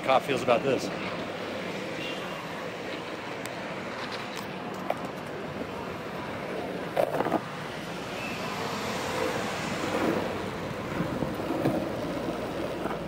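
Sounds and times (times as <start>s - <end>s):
city traffic: 0.0s - 13.0s
skateboard wheels rolling on asphalt: 0.0s - 13.0s.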